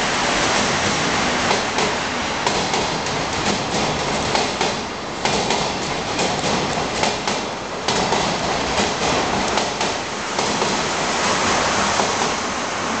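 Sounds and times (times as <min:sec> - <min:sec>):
train wheels rumbling on rail: 0:00.0 - 0:13.0
wheels clacking over rail joints: 0:01.4 - 0:12.5.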